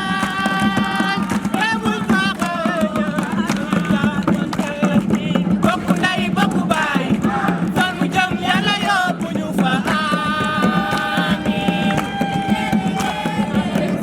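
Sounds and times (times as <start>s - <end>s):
fast percussion beat: 0.0s - 14.0s
person singing: 0.0s - 14.0s.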